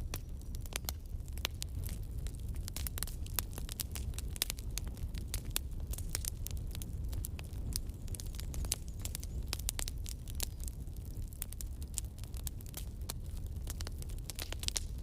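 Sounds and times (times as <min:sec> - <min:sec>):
logs crackling in fireplace: 0:00.0 - 0:15.0
low rumble of fire: 0:00.0 - 0:15.0.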